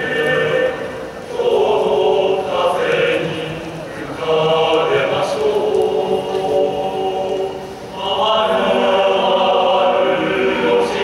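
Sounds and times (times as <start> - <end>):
male choir singing: 0.0 - 11.0.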